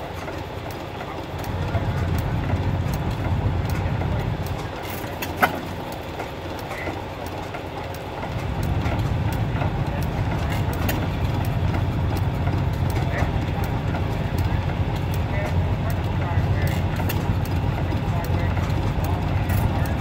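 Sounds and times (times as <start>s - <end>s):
stationary gas engine pulsing: 0.0s - 20.0s.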